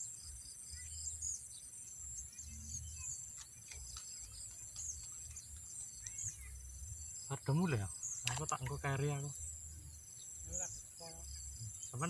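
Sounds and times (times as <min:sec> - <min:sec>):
bird chirps: 0:00.0 - 0:12.0
crickets droning: 0:00.0 - 0:12.0.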